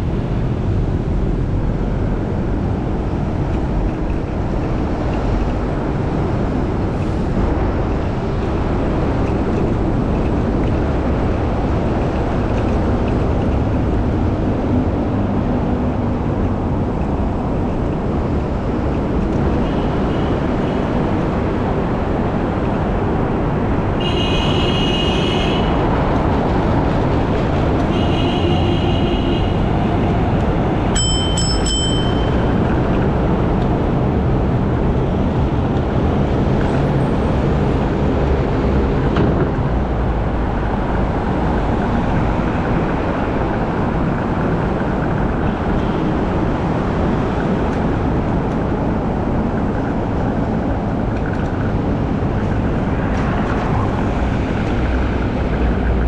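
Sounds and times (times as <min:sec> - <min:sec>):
traffic and road noise: 0:00.0 - 0:56.0.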